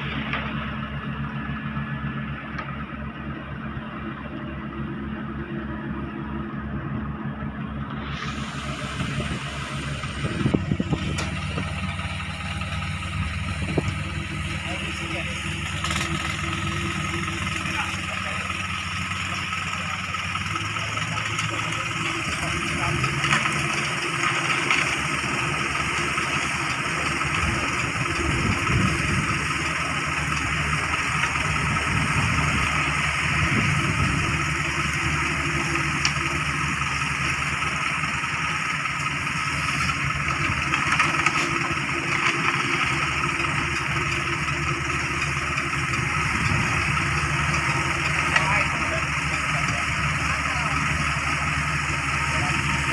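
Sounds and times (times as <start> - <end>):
concrete mixer truck engine: 0.0 - 52.9
excavator diesel engine running: 0.0 - 52.9.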